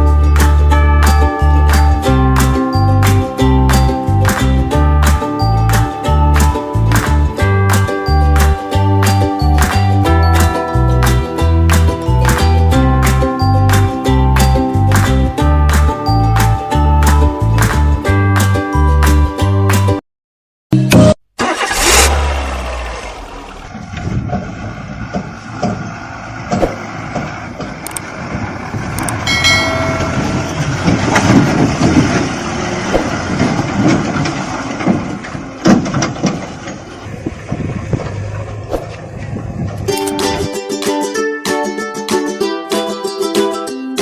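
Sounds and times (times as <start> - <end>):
vehicle engine rumbling and clattering: 0.0 - 20.0, 21.0 - 40.6.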